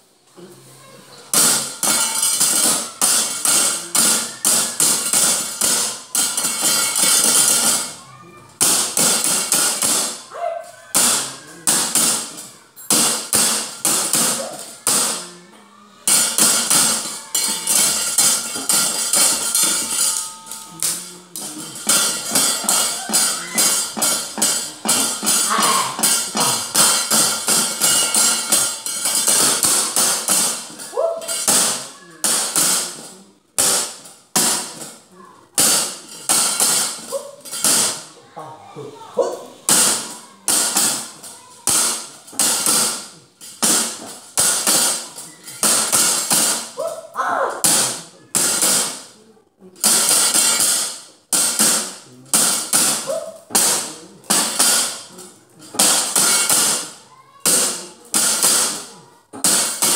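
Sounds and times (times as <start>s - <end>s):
clattering metal plates: 1.2s - 38.2s, 39.4s - 47.0s, 49.8s - 59.9s.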